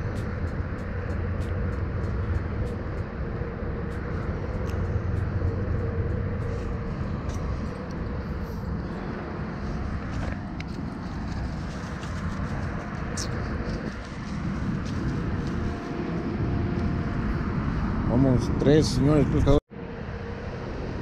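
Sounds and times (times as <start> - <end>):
faint hum: 0.0 - 21.0
low rumble: 0.0 - 21.0.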